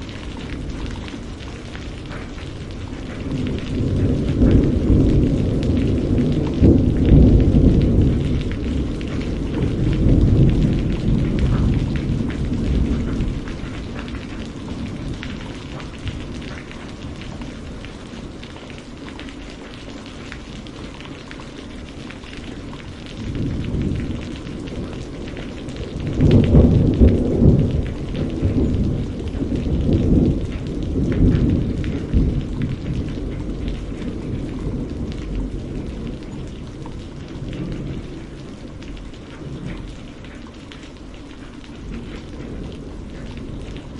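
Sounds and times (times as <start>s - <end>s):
rolling thunder: 0.0s - 19.3s, 22.4s - 40.3s
steady rain hissing: 0.0s - 43.9s.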